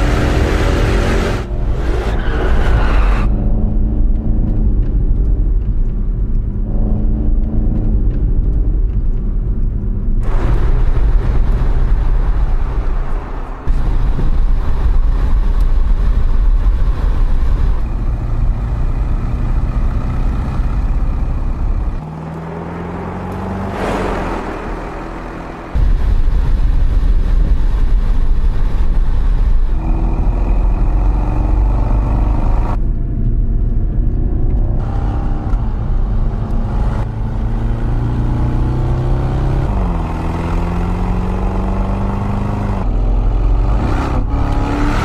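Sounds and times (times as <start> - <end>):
road noise: 0.0 - 45.0
car engine running: 3.3 - 44.8.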